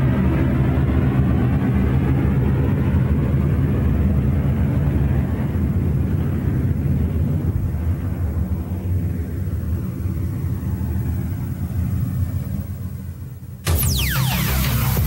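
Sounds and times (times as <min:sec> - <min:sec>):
deep droning engine rumble: 0:00.0 - 0:15.0.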